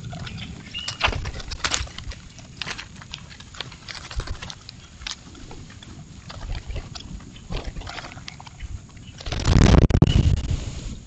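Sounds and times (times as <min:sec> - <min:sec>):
birds chipping and clicking: 0:00.0 - 0:09.8.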